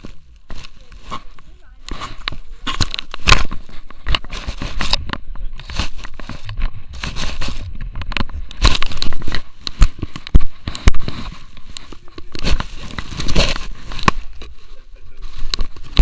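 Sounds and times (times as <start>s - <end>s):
grass rustling against camera: 0.0s - 16.0s.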